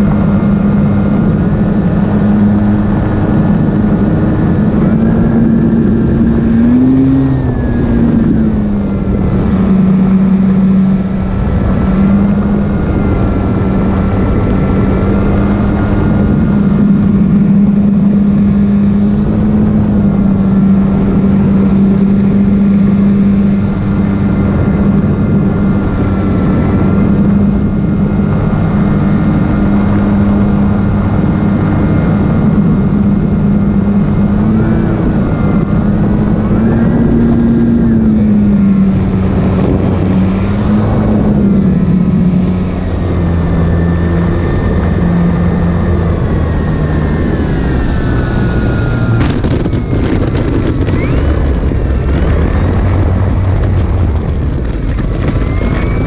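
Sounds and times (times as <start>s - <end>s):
rush of air: 0.0s - 56.0s.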